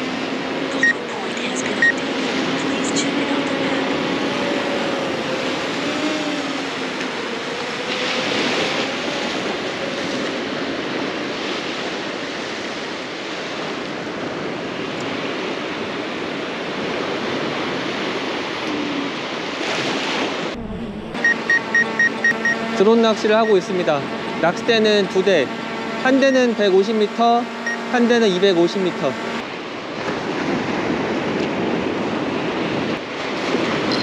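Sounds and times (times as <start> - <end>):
drone propeller hum: 0.0 - 34.0
surf: 0.0 - 34.0.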